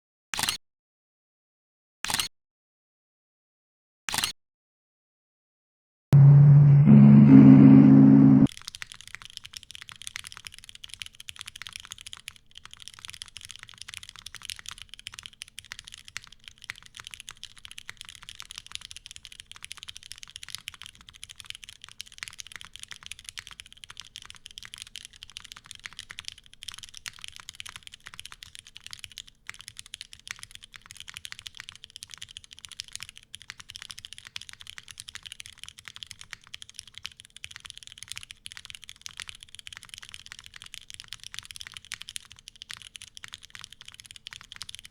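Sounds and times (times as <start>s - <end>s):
mechanical keyboard typing: 8.5s - 44.9s.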